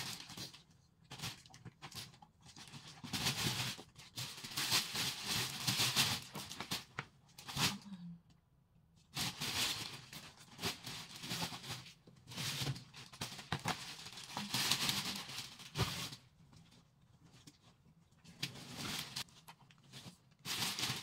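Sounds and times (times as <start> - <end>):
plastic bags rustling: 0.0 - 7.9, 9.2 - 16.4, 18.2 - 21.0.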